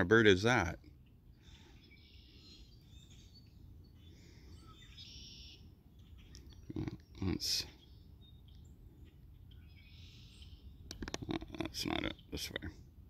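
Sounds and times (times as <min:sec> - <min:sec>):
faint bird calls: 0:01.0 - 0:12.7.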